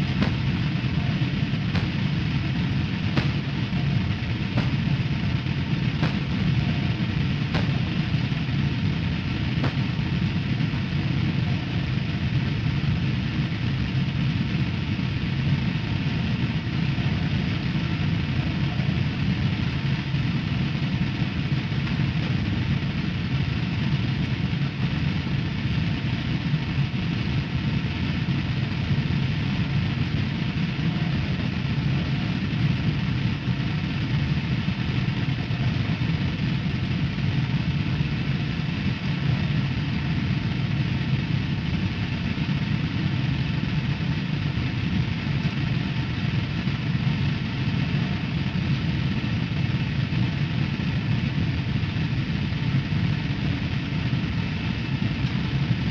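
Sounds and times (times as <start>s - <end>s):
low rumbling drone: 0.0s - 55.9s.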